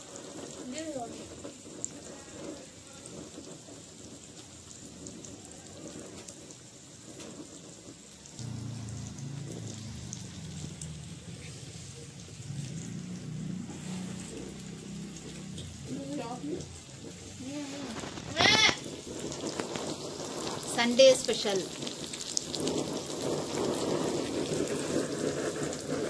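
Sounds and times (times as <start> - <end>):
fish sizzling on a griddle: 0.0 - 26.0
low rumble of fire: 0.0 - 26.0.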